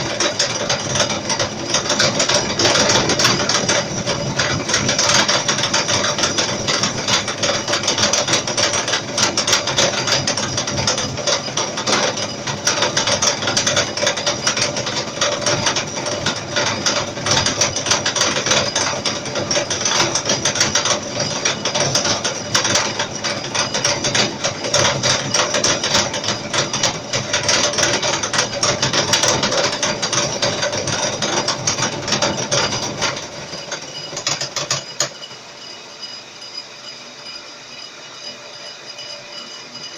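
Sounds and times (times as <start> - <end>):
milling cutter chipping metal: 0.0 - 39.9.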